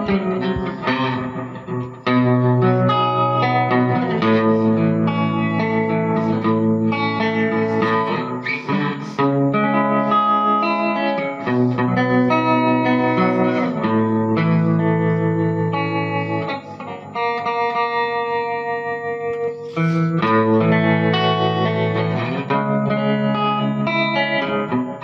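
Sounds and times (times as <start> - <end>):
clean electric guitar with reverb: 0.0 - 25.0.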